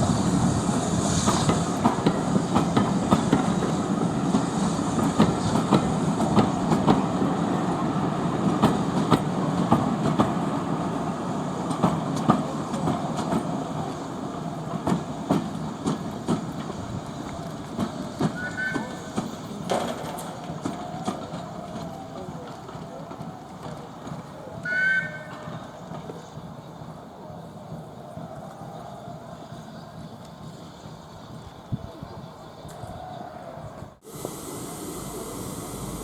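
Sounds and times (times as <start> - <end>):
train wheels clickety-clack: 0.0 - 34.4
train rumble: 0.0 - 36.0.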